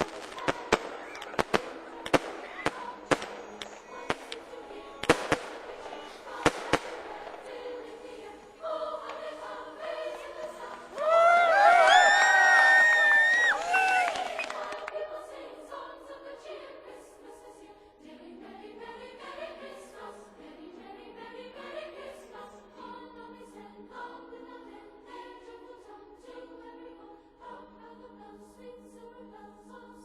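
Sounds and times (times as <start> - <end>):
choir singing slow held chords: 0.0 - 30.0.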